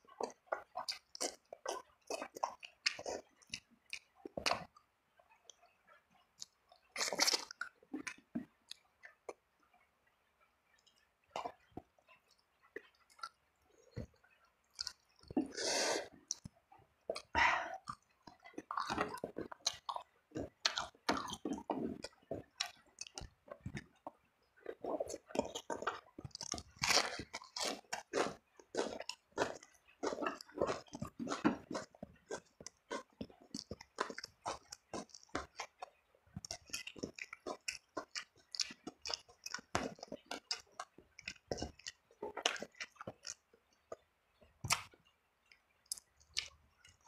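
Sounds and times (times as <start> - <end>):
person eating crunchy food: 0.1 - 4.7, 6.4 - 8.8, 12.3 - 16.5, 17.1 - 44.0.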